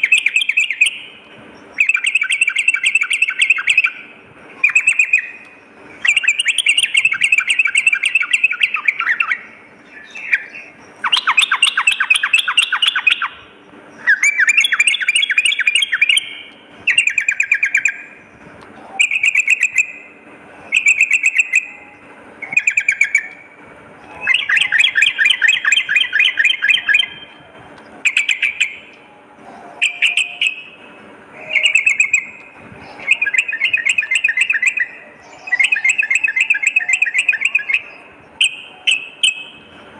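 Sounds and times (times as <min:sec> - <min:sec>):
bulbul singing bubbly chattering: 0:00.0 - 0:18.3, 0:19.0 - 0:29.1, 0:29.8 - 0:39.9.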